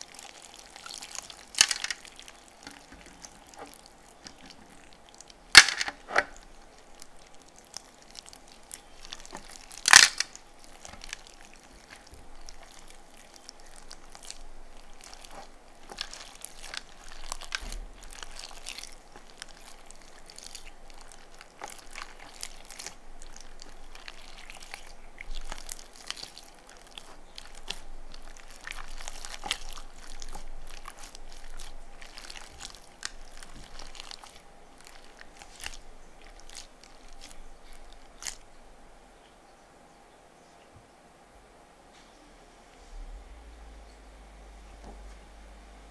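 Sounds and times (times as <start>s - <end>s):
slime squelching and popping: 0.0s - 38.6s.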